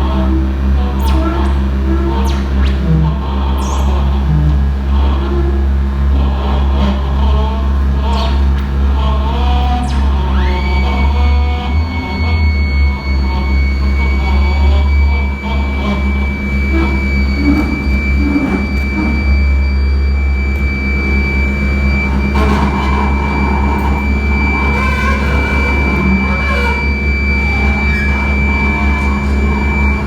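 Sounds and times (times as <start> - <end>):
high whine: 0.0 - 30.0
loud low drone: 0.0 - 30.0.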